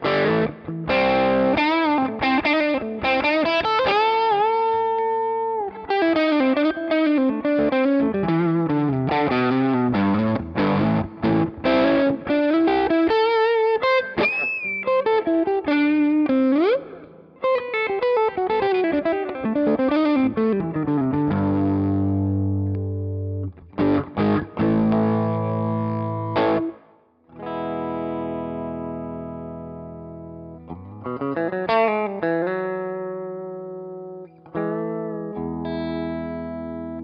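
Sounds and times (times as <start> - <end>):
overdriven electric guitar lead: 0.0 - 37.0
ringing guitar chords: 0.0 - 37.0.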